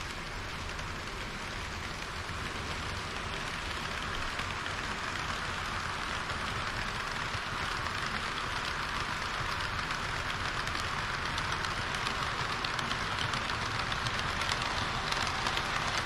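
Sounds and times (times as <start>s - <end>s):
model train wheels rattling on track: 0.0s - 16.0s.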